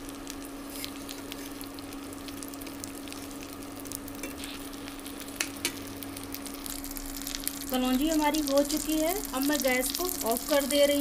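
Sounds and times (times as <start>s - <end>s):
steady low hum: 0.0s - 11.0s
vegetables sizzling and crackling in oil: 0.0s - 11.0s.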